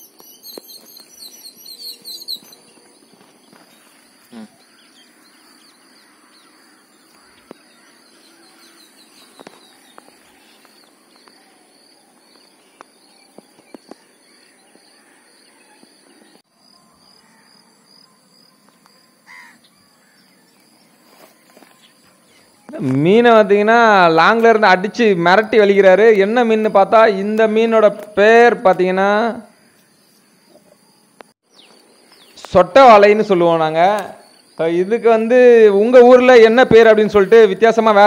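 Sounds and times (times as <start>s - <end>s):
bird chirping: 0.0s - 27.7s, 29.5s - 36.1s.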